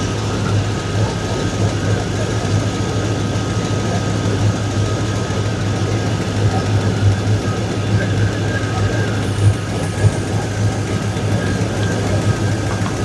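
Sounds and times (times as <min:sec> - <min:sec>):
engine idling with exhaust leak: 0:00.0 - 0:13.0.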